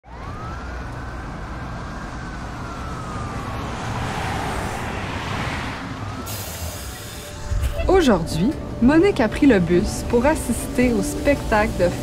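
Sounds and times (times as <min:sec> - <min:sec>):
bus drivetrain whine: 0:00.0 - 0:12.0
bus engine rumble: 0:00.1 - 0:12.0.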